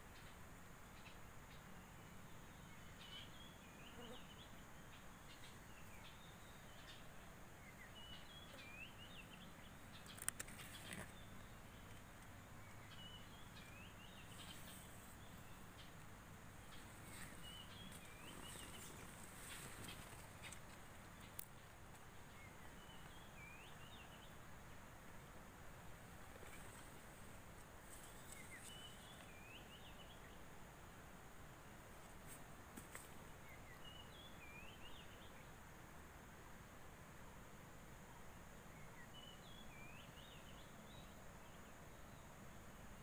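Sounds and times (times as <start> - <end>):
small birds twittering: 0.0 - 24.9, 25.8 - 35.7, 38.1 - 43.0.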